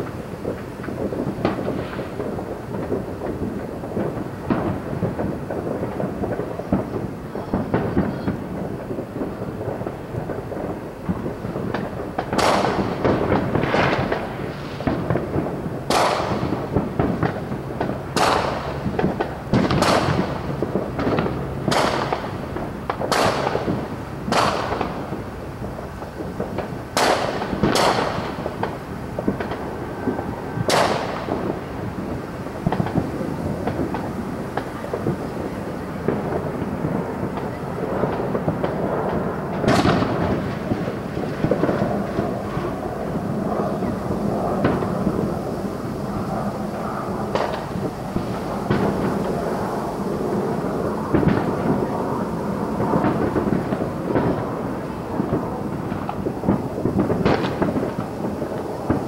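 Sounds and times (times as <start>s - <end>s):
continuous low rumble: 0.0s - 59.0s
distant fireworks bangs: 0.0s - 59.0s.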